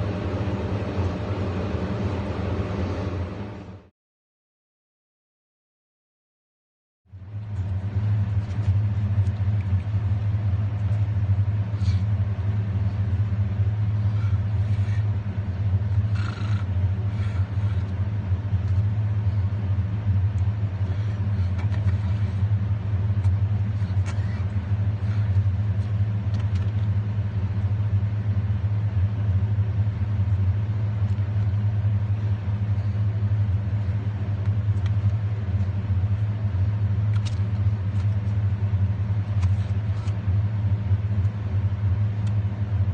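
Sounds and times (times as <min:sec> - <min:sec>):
vehicle engine rumbling: 0:00.0 - 0:03.9, 0:07.1 - 0:42.9.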